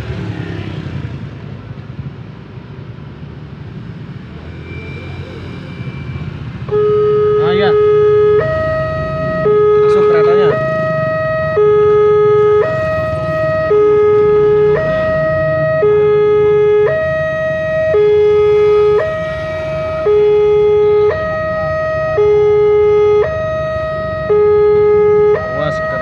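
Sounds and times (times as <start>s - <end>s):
level crossing two-tone alarm: 4.4s - 26.0s.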